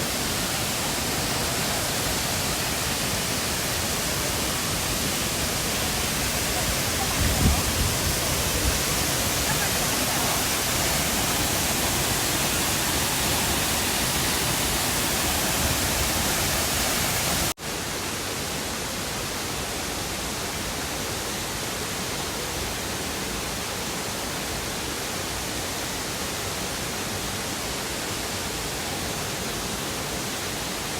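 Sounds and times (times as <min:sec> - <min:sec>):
waterfall roaring: 0:00.0 - 0:30.9.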